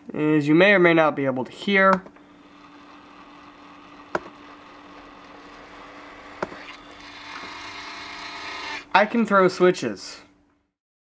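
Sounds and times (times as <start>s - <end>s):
faint hum: 0.0s - 10.8s.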